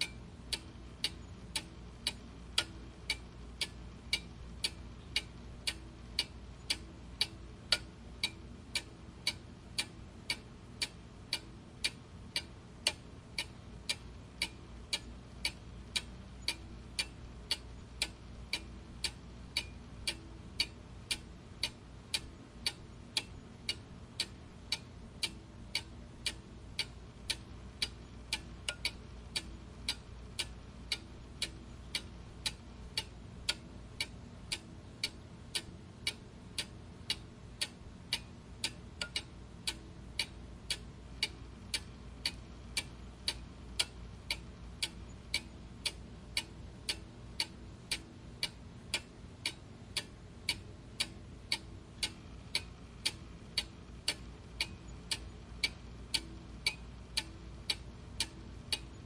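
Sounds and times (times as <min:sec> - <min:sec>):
clock ticking: 0:00.0 - 0:59.0
faint low hum: 0:00.0 - 0:59.0.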